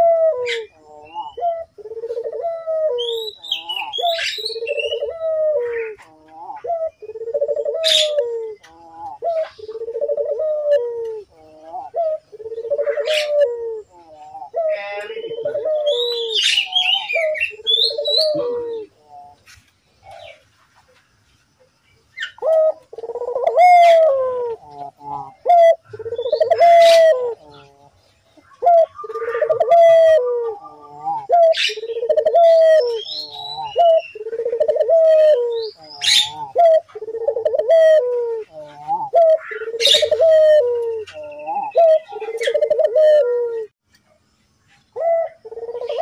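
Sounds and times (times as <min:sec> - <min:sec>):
dove cooing: 0:00.0 - 0:20.4, 0:22.2 - 0:43.8, 0:44.9 - 0:46.0.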